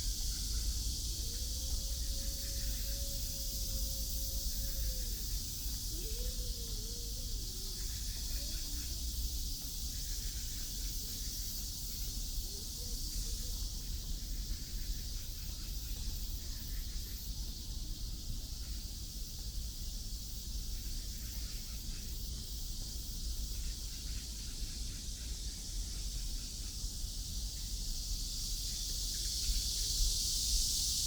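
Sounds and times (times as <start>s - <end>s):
steady high hiss: 0.0s - 31.0s.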